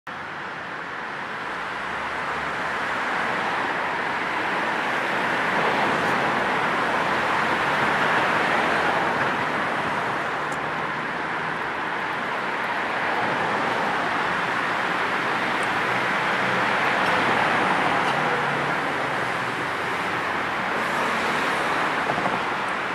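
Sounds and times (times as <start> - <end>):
cars passing: 0.2 - 22.9.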